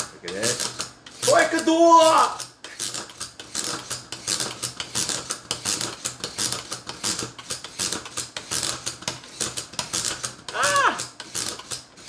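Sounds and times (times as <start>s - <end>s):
plastic toy clicking and ratcheting: 0.0s - 12.0s.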